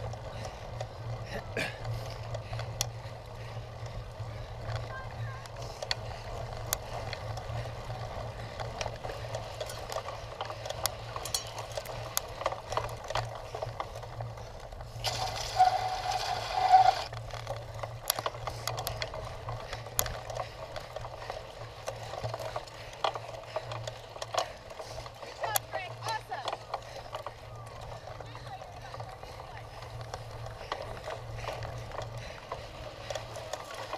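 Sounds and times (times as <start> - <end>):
bicycle rattling and clicking: 0.0 - 33.9.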